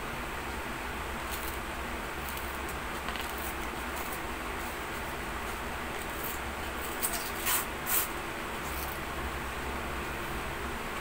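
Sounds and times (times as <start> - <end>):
steady hiss and hum: 0.0 - 11.0.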